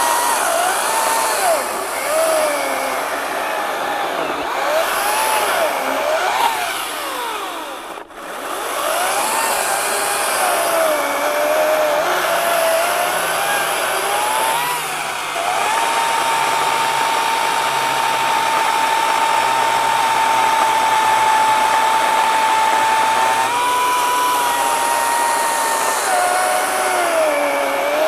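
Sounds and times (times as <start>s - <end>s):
electric chainsaw cutting log: 0.0s - 28.0s.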